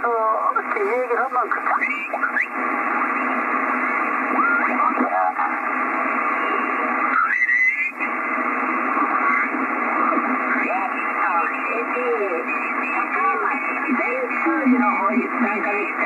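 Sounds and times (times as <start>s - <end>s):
radio band hiss: 0.0s - 16.0s.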